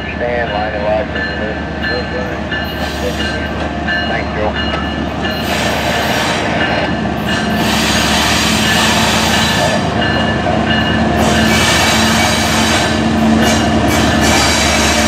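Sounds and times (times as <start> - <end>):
locomotive engine drone: 0.0 - 15.0
train rumbling on rails: 0.0 - 15.0.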